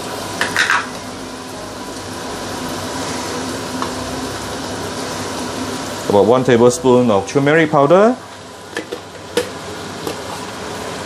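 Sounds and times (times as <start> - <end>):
oil sizzling in wok: 0.0 - 11.0.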